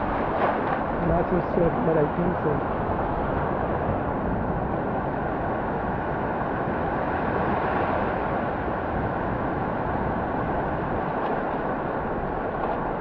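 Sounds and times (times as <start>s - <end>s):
ocean surf rushing: 0.0s - 13.0s
wind buffeting microphone: 0.0s - 13.0s.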